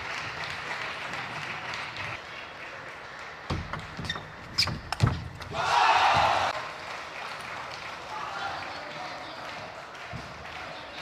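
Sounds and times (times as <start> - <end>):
crowd applause and murmur: 0.0 - 3.5, 5.5 - 11.0.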